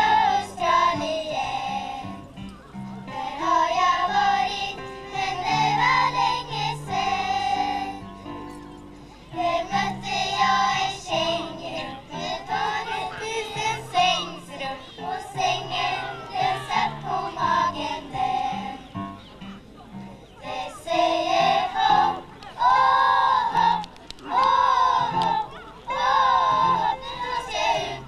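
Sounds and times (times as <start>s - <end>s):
children's choir singing: 0.0s - 2.4s, 3.0s - 8.4s, 9.2s - 19.1s, 20.1s - 28.0s.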